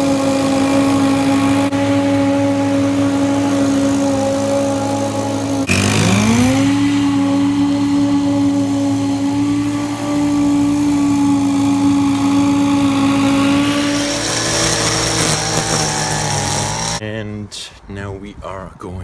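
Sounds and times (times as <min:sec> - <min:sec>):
lawn mower engine running: 0:00.0 - 0:17.0
string trimmer whining: 0:00.0 - 0:17.0.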